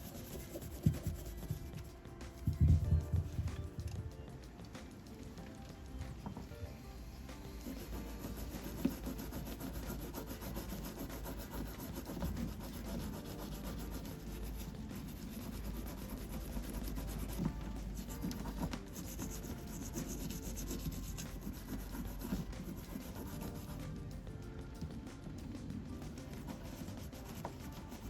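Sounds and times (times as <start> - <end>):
rapid scrubbing: 0.0 - 28.0.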